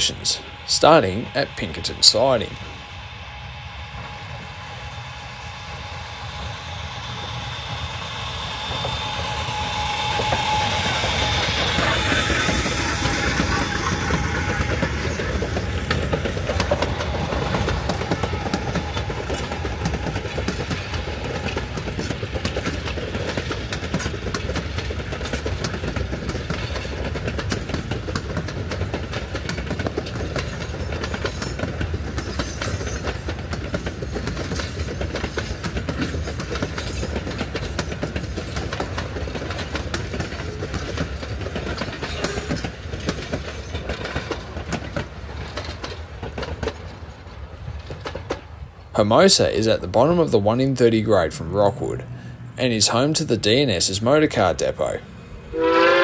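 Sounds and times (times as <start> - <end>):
train wheels clattering on rail: 0.0 - 56.0.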